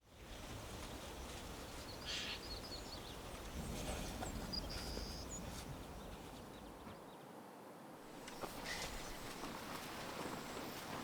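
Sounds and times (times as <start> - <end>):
birds chirping: 0.7 - 7.3, 8.2 - 11.0.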